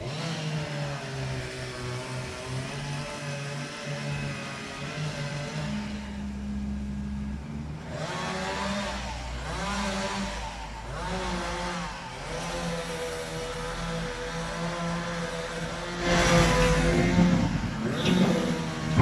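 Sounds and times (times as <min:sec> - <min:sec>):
engine revving: 0:00.0 - 0:19.0.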